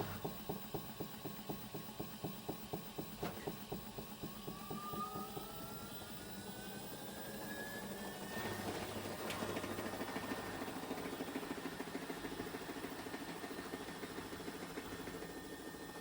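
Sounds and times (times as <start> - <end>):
rhythmic knocking in washing machine: 0.0 - 16.0
washing machine motor whine: 0.0 - 16.0.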